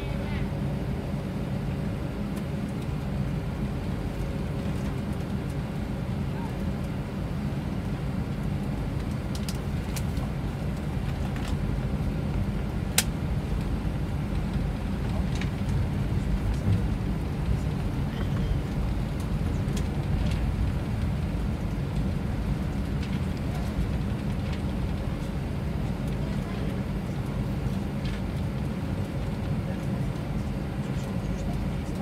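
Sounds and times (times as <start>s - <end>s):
airliner cabin rumble: 0.0s - 32.0s.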